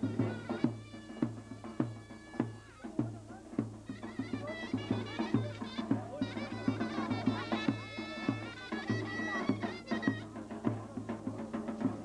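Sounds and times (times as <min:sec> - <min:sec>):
shrill reed melody: 0:00.0 - 0:11.8.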